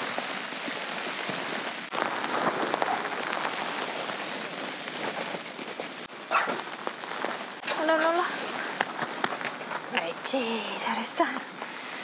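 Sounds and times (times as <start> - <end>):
heavy rain on tent fabric: 0.0 - 12.0.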